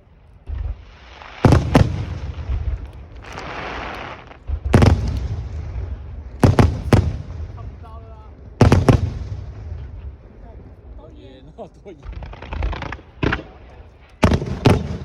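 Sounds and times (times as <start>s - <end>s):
fireworks hissing crackle: 0.0s - 15.0s
fireworks bursting with booms: 0.4s - 11.2s, 12.0s - 15.0s.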